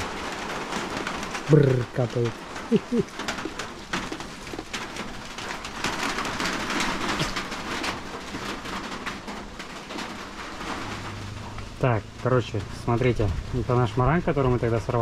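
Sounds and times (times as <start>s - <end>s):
rain drops tapping: 0.0s - 15.0s.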